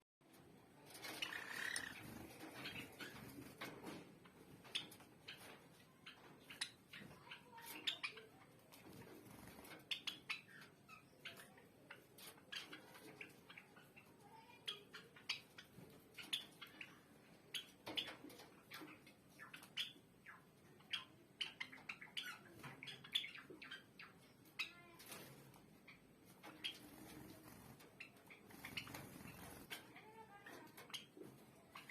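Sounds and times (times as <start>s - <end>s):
sparrows chirping: 0.3s - 31.9s.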